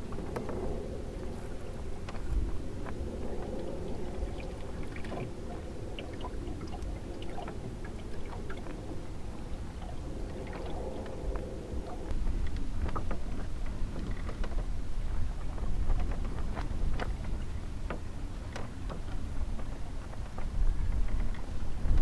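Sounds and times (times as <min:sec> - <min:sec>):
water lapping along a hull: 0:00.0 - 0:22.0
wind rumble on microphone: 0:00.0 - 0:22.0.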